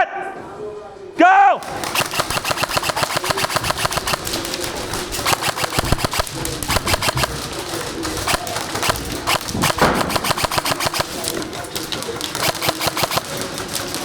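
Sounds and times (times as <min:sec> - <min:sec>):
airsoft guns firing: 0:01.6 - 0:14.0.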